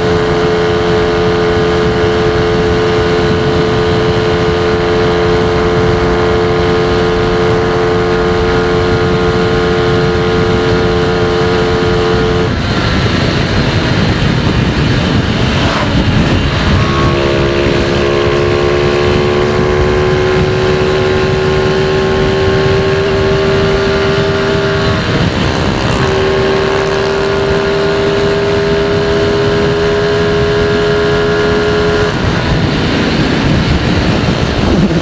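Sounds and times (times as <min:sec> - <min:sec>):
motorcycle engine revving high: 0:00.0 - 0:35.0
wind rush: 0:00.0 - 0:35.0.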